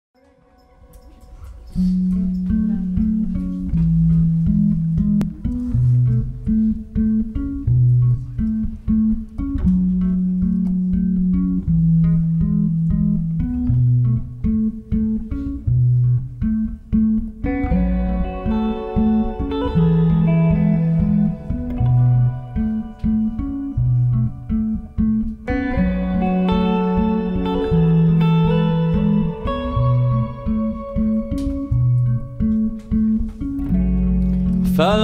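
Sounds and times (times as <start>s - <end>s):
electric bass guitar melody: 1.1s - 35.0s.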